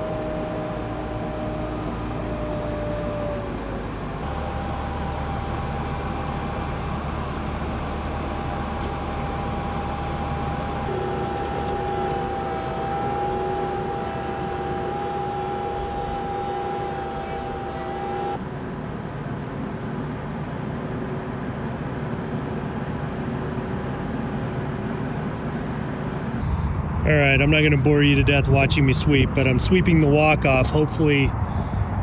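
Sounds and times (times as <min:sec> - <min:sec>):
tractor engine running: 0:00.0 - 0:26.4
hydraulic whine: 0:00.0 - 0:26.5.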